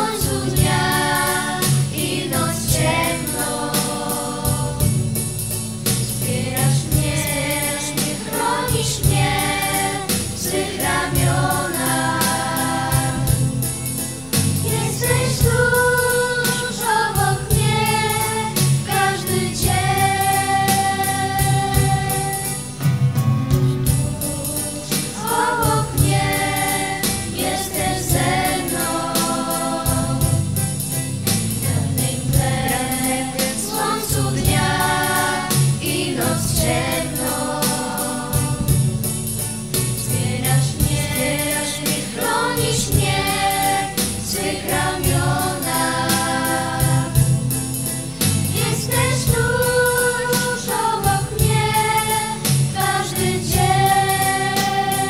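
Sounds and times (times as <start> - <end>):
voices singing over a beat: 0.0 - 22.8, 23.8 - 55.0.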